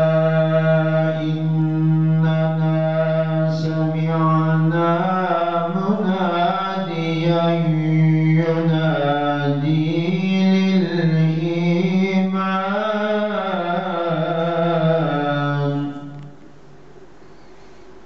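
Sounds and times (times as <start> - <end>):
man reciting melodically: 0.0 - 16.4.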